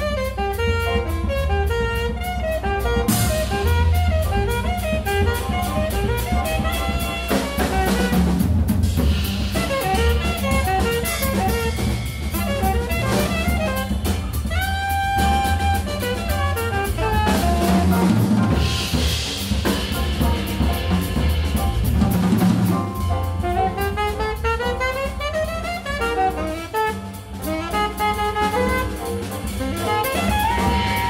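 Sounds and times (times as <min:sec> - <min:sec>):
fast saxophone solo: 0:00.0 - 0:31.0
jazz quartet playing: 0:00.0 - 0:31.0.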